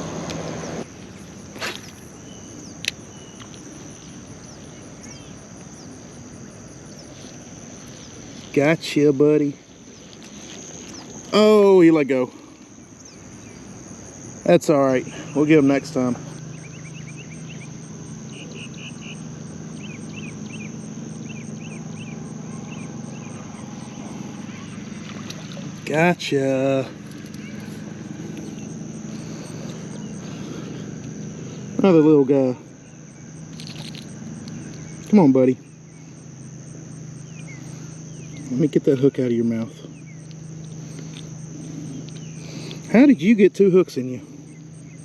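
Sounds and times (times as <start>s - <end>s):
crickets and insects chirping: 0.0s - 45.0s
steady low hum: 0.0s - 45.0s.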